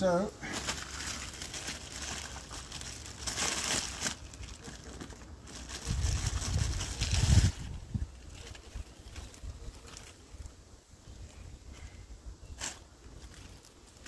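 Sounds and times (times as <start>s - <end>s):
plastic bag crinkling: 0.4s - 10.5s, 12.6s - 14.0s.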